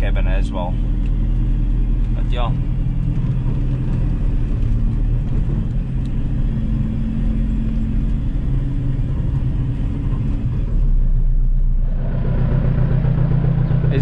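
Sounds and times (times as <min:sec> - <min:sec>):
diesel engine running: 0:00.0 - 0:14.0
road noise: 0:00.0 - 0:14.0.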